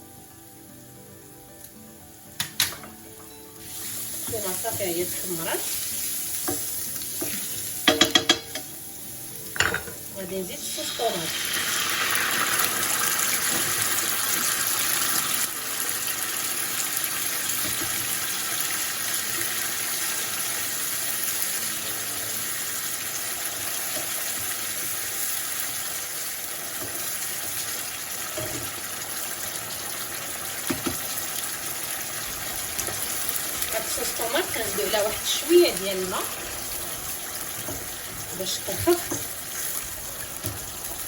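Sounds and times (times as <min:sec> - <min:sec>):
sauce sizzling in frying pan: 0:00.0 - 0:41.0.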